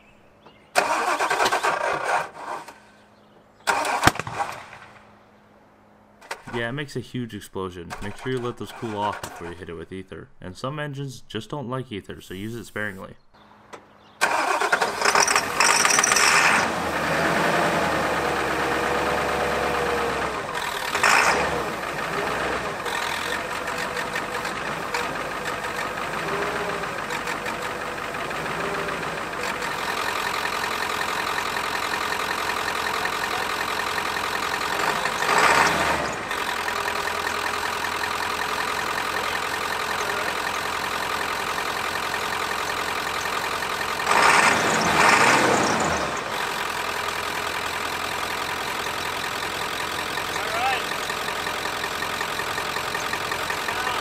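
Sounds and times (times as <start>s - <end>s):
diesel engine idling: 0.0s - 11.4s, 12.2s - 54.0s.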